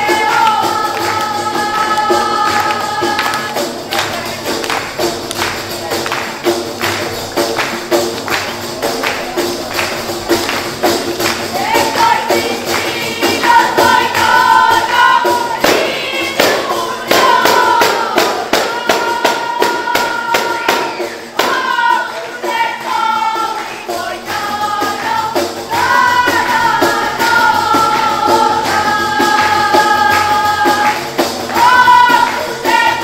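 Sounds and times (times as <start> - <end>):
women singing together: 0.0 - 4.8, 11.2 - 33.0
frame drums with jingles: 0.0 - 33.0.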